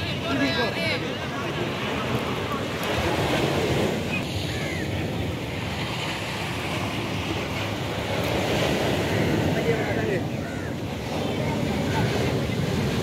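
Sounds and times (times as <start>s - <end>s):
ocean surf washing ashore: 0.0s - 13.0s
wind on microphone: 0.0s - 13.0s.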